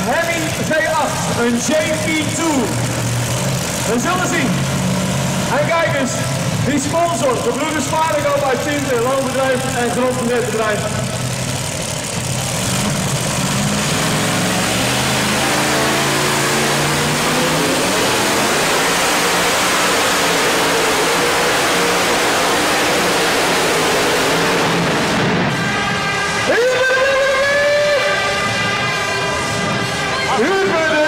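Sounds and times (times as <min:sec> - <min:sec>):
tractor engine running flat out: 0:00.0 - 0:31.0.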